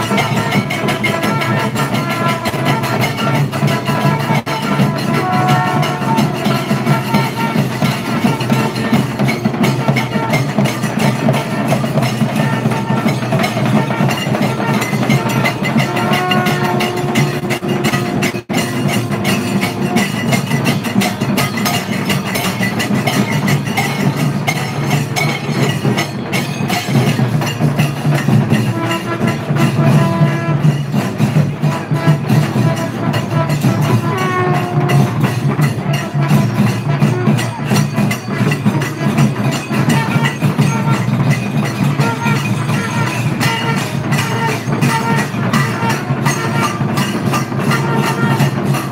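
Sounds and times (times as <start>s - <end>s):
brass horns holding notes: 0.0s - 22.4s, 28.5s - 48.9s
drums beaten fast: 0.0s - 48.9s.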